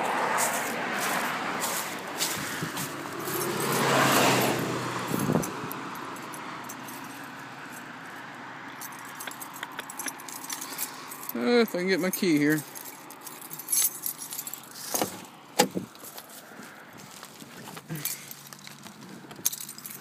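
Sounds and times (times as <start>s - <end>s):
passing car road noise: 0.0s - 20.0s.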